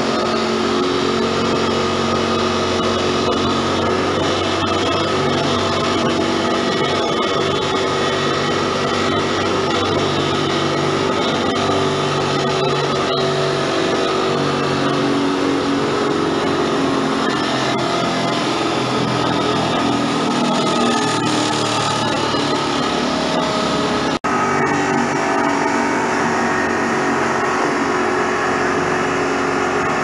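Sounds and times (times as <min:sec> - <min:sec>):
machine grinding wood: 0:00.0 - 0:30.0.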